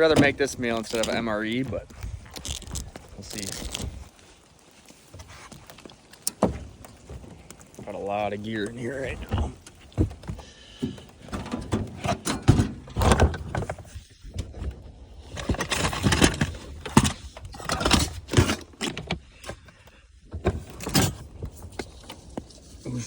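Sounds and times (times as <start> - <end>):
camping gear clattering: 0.0 - 23.0
rustling: 0.0 - 23.0.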